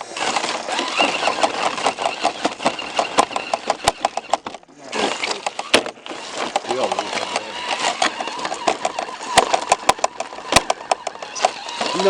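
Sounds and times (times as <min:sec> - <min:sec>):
rc car motor and gears whining: 0:00.0 - 0:12.0
sharp clicks: 0:00.2 - 0:12.0.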